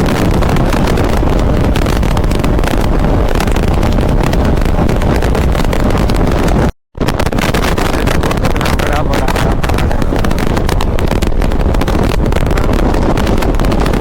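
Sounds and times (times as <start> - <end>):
road noise: 0.0 - 6.6, 7.2 - 14.0
wind buffeting microphone: 0.0 - 14.0.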